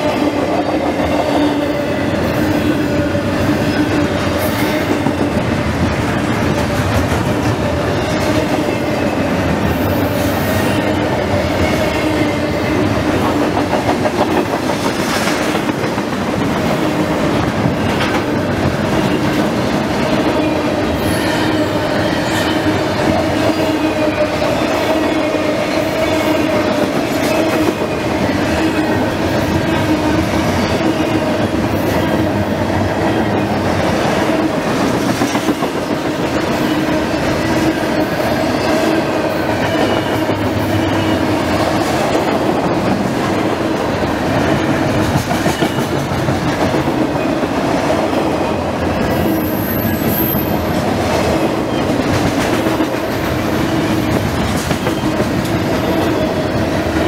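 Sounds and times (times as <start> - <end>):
steel train wheels on rails: 0.0 - 57.0.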